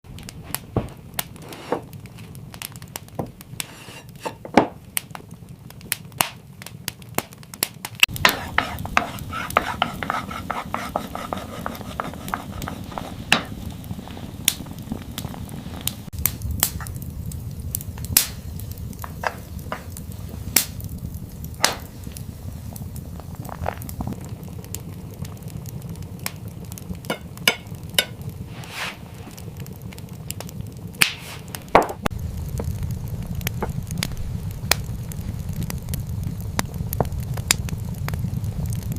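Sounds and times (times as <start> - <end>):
frying hiss: 0.0 - 38.9.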